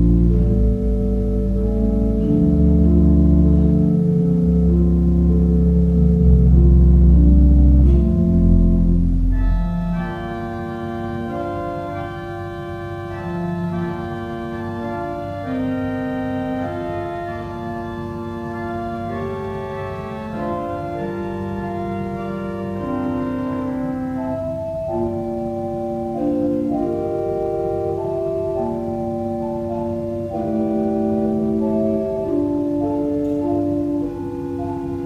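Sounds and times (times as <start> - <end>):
church organ chords: 0.0 - 35.0.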